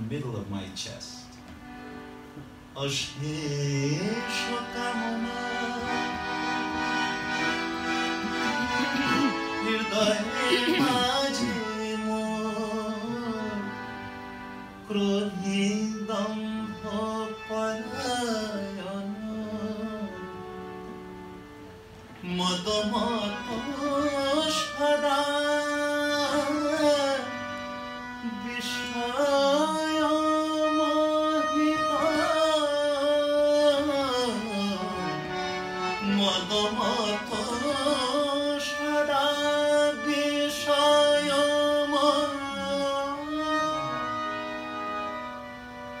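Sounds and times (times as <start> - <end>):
harmonium chords: 0.0 - 46.0
man singing devotional song: 2.8 - 20.6, 22.2 - 44.7.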